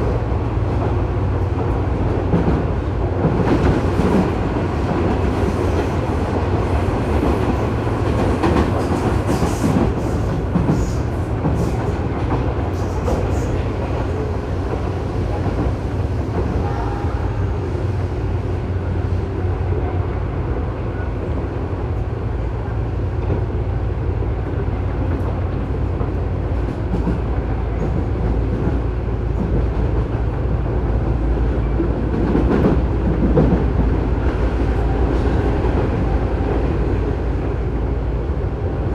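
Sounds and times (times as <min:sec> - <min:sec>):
train rolling rumble: 0:00.0 - 0:38.9.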